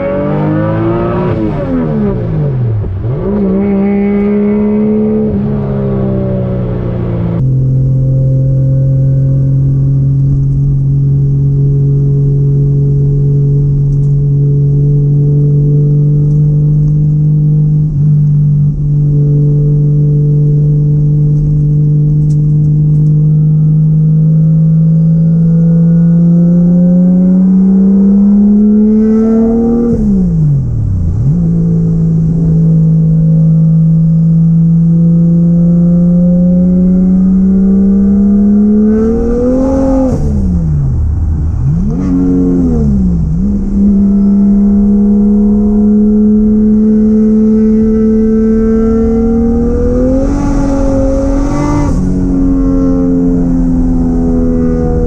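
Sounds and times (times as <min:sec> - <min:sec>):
turbocharged car engine revving: 0:00.0 - 0:55.0.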